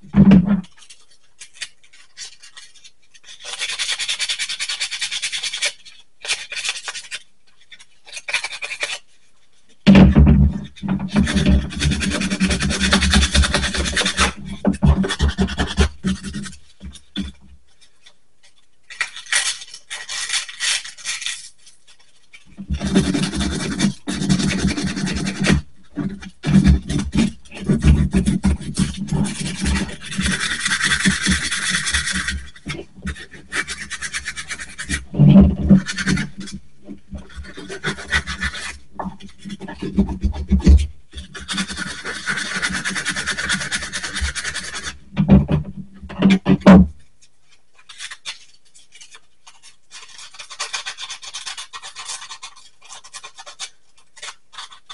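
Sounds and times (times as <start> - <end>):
sandpaper rasping: 0.6 - 9.1, 10.6 - 18.0, 18.9 - 45.0, 47.8 - 54.9.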